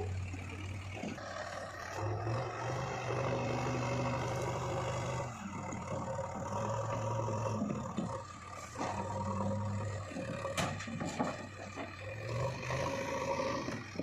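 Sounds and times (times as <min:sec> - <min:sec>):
heavy machinery diesel engine: 0:00.0 - 0:14.0.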